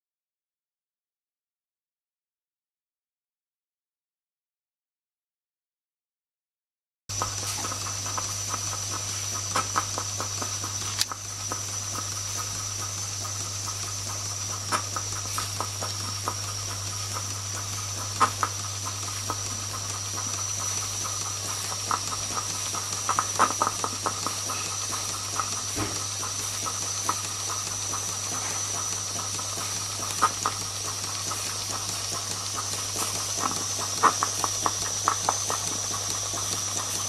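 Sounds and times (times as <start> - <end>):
steam hissing: 7.1 - 37.0
toy steam engine clicking: 7.2 - 37.0.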